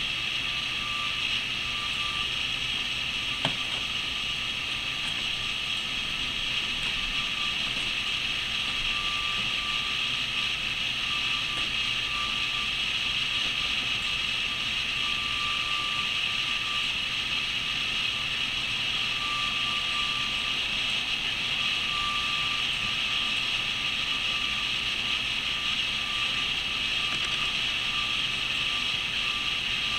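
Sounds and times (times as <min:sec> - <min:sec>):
thin high whine: 0:00.0 - 0:29.9.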